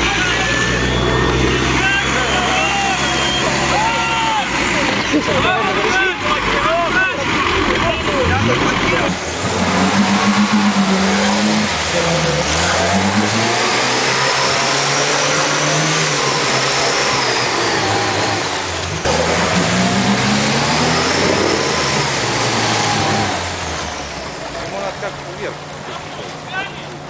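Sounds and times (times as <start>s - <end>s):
engine revving hard: 0.0s - 24.8s.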